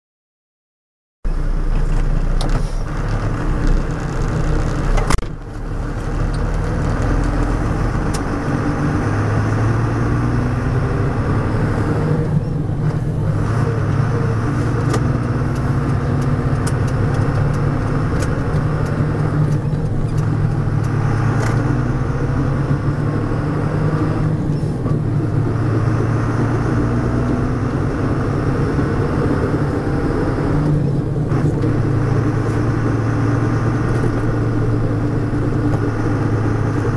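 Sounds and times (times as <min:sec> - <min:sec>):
drivetrain whine: 0:01.2 - 0:36.9
diesel truck engine under load: 0:01.3 - 0:36.9.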